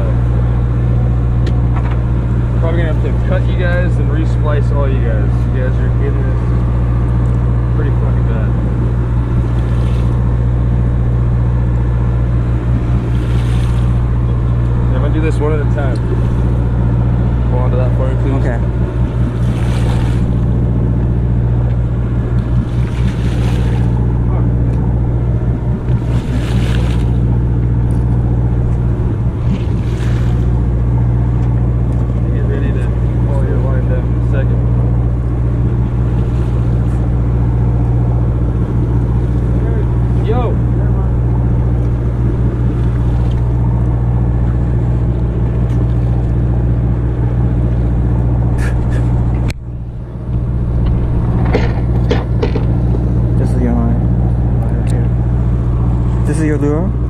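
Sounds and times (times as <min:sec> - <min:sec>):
boat engines humming: 0:00.0 - 0:57.0.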